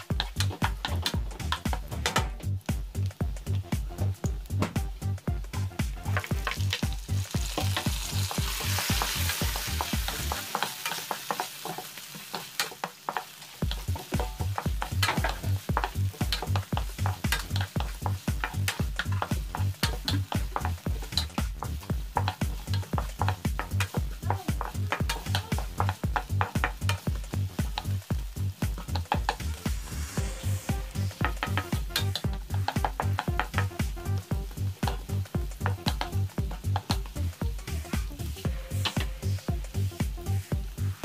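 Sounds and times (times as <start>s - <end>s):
background music beat: 0.0s - 11.8s, 13.1s - 41.0s
onions sizzling in oil: 0.0s - 41.0s.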